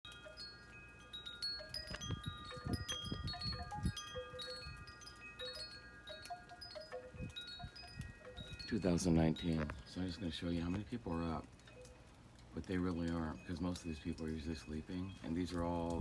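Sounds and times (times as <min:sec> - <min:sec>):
wind chimes ringing: 0:00.1 - 0:16.0.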